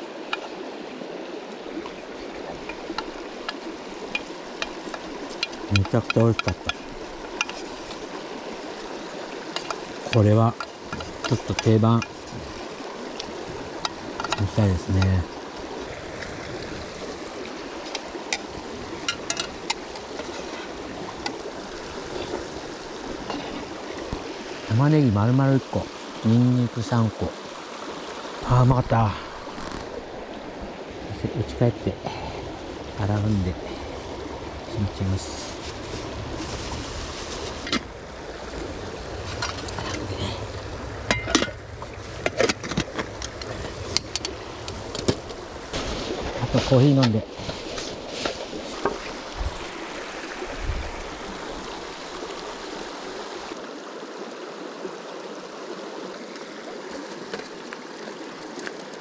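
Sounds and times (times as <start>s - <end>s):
river stream rushing: 0.0s - 59.0s.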